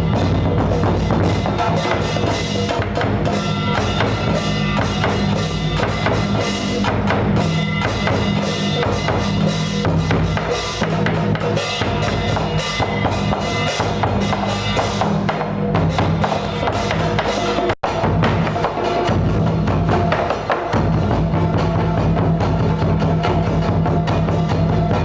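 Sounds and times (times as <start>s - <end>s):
drums and rapid knocks: 0.0s - 25.0s.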